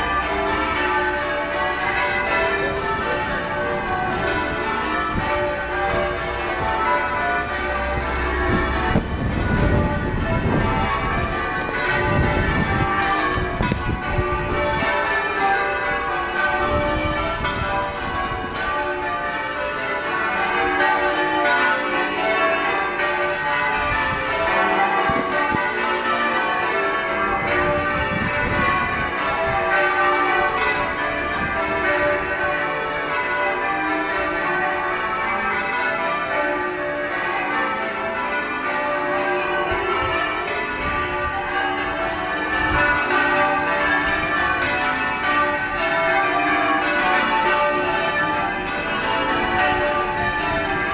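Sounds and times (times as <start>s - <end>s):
church bells ringing changes: 0.0s - 50.9s.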